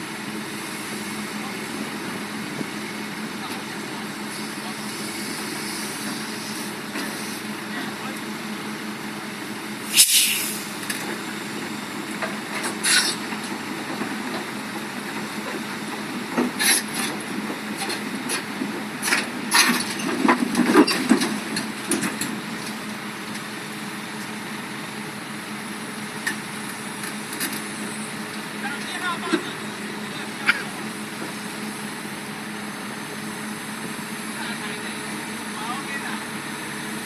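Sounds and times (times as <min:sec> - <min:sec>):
excavator diesel engine humming: 0:00.0 - 0:37.0.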